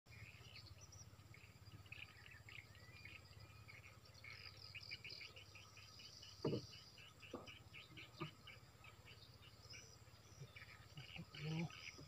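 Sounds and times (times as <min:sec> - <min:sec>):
birds and insects chirping: 0:00.1 - 0:12.0
low steady hum: 0:00.1 - 0:12.0.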